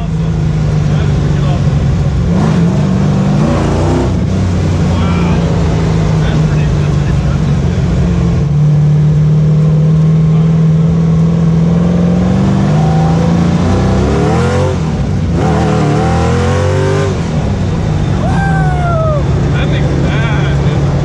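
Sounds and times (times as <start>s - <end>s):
engine revving and accelerating: 0.0s - 21.0s.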